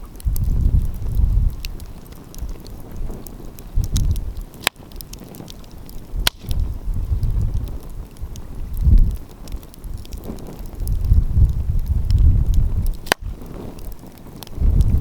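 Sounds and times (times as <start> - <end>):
wind buffeting microphone: 0.0 - 15.0
wood fire crackling: 0.0 - 15.0.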